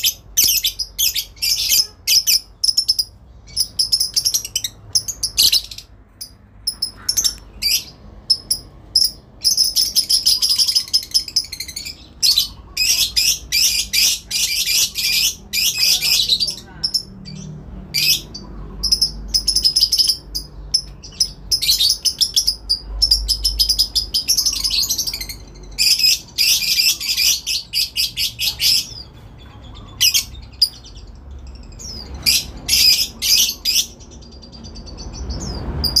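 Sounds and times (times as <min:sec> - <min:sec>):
lovebird chattering trills: 0:00.0 - 0:36.0.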